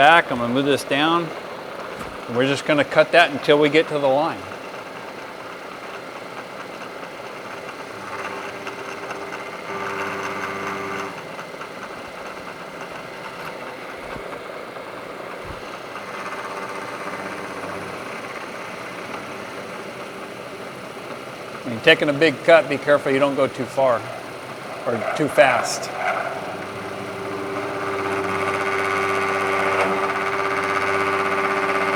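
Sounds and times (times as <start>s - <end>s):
milling machine cutting metal: 0.0s - 31.9s.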